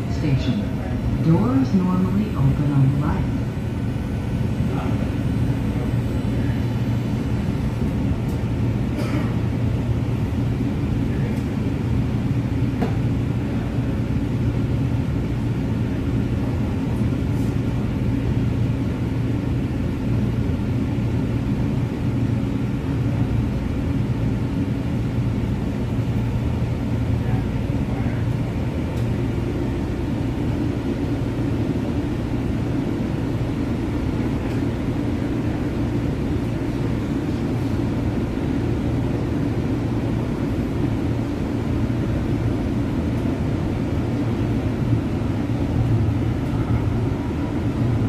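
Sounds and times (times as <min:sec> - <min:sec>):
train car equipment humming: 0:00.0 - 0:48.0.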